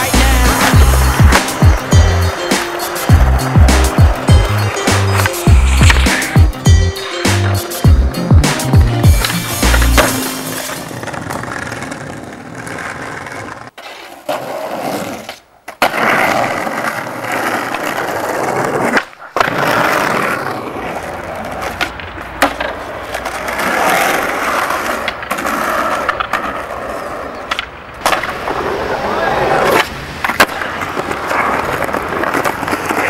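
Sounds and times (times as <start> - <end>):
skateboard popping and landing: 0.0 - 7.6, 8.4 - 33.0
skateboard wheels rolling on concrete: 0.0 - 33.0.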